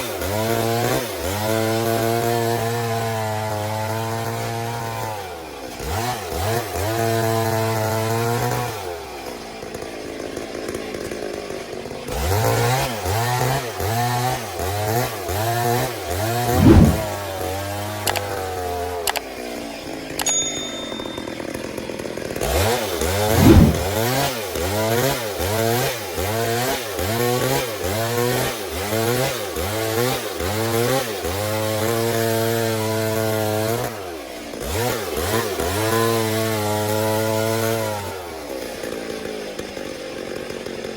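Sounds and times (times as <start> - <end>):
chainsaw cutting through log: 0.0 - 20.1, 21.4 - 40.9.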